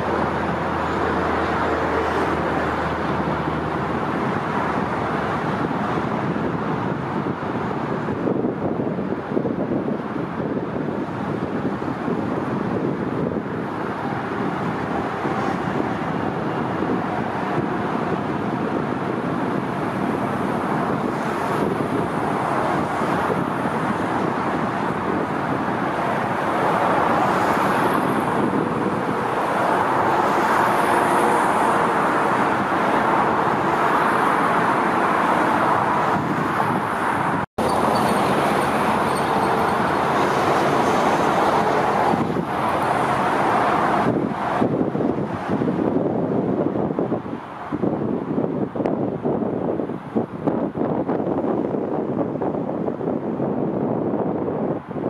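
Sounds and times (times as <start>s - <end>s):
aircraft engine roar: 0.0s - 55.0s
vehicle traffic: 0.0s - 55.0s.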